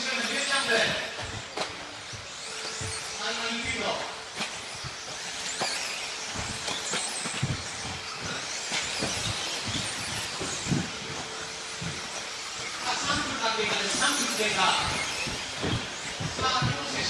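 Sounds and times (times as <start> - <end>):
electric motors hissing: 0.0 - 17.0
dull thumps: 0.8 - 17.0.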